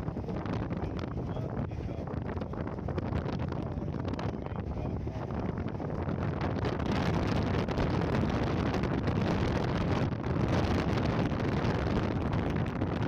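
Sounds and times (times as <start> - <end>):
van engine and road noise: 0.0 - 13.0
wind buffeting microphone: 0.0 - 13.0.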